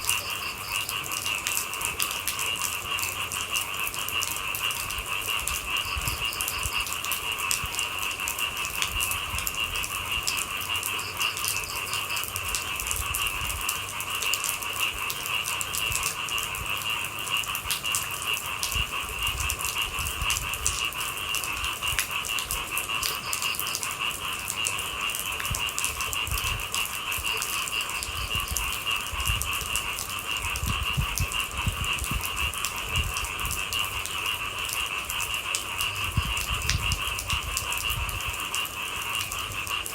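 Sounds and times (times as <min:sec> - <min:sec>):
chorus of night animals: 0:00.0 - 0:39.9
steady rain: 0:00.0 - 0:39.9.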